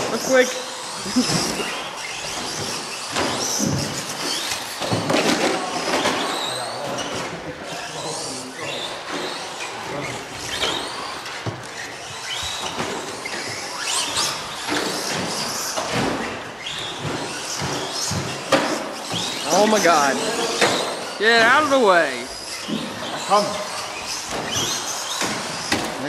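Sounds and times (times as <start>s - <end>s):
tyre squeal: 0.2s - 25.8s.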